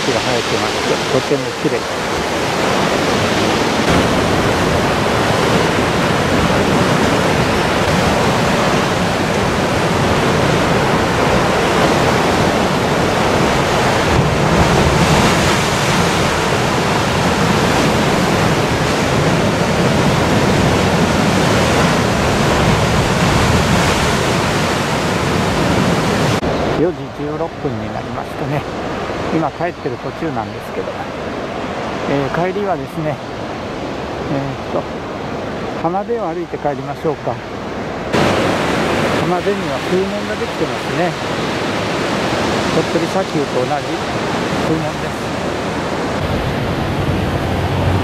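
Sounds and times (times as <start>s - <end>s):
waves breaking over rocks: 0.0s - 48.0s.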